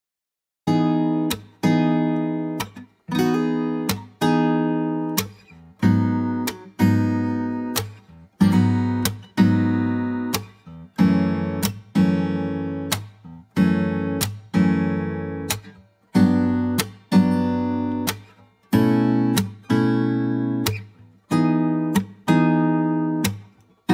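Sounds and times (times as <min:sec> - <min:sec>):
acoustic guitar strumming chords: 0:00.7 - 0:23.9.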